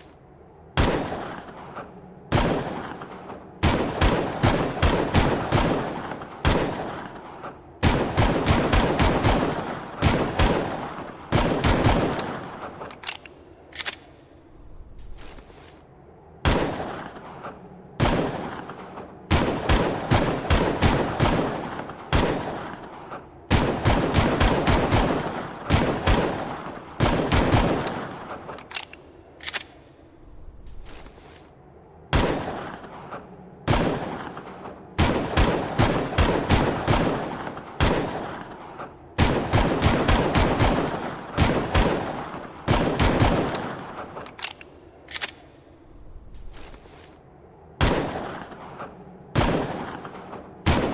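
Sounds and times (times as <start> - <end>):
pistol gunshots with echo: 0.7 - 14.1, 16.4 - 29.8, 32.0 - 45.6, 47.8 - 50.9.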